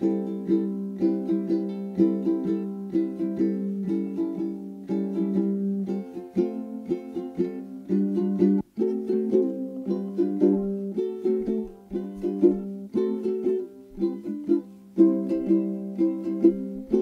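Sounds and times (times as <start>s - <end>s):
plucked string music: 0.0s - 17.0s.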